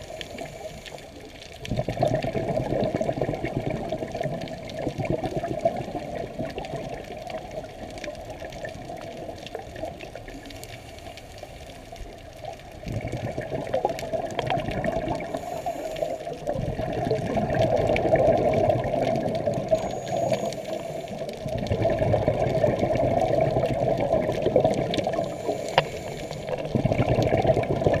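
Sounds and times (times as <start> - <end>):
regulator bubbles rushing: 0.0 - 10.4, 12.4 - 28.0
muffled underwater noise: 0.0 - 28.0.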